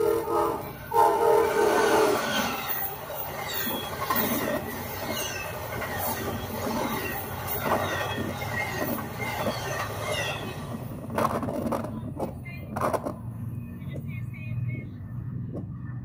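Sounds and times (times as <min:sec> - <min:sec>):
train cars rushing past: 0:00.0 - 0:16.0.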